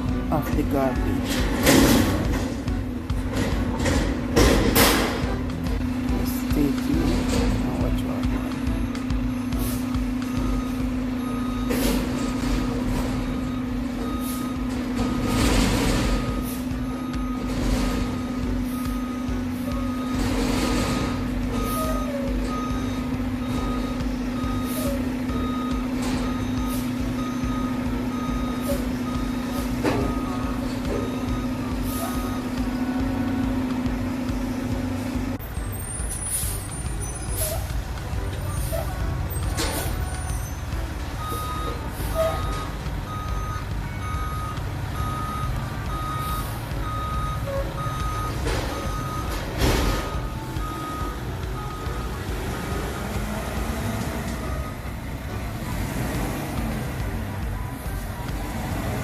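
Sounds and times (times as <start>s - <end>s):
diesel engine rumbling: 0.0s - 59.0s
garbage truck humming: 0.0s - 59.0s.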